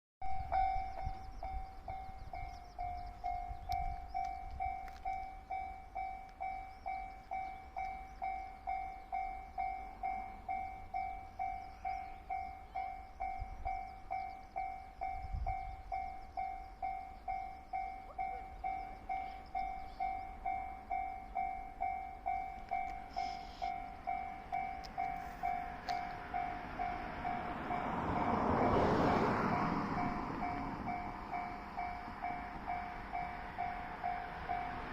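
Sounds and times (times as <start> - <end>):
train passing: 0.2 - 34.9.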